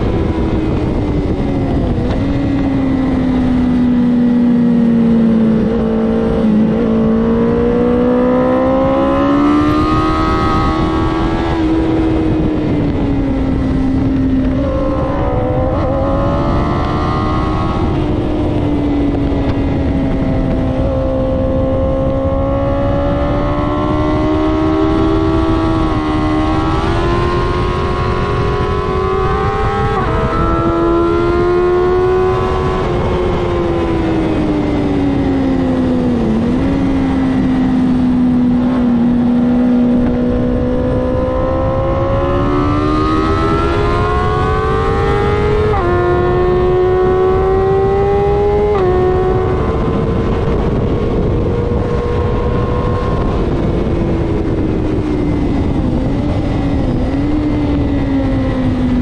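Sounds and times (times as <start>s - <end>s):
motorcycle engine revving high: 0.0s - 59.0s
wind rush on microphone: 0.0s - 59.0s.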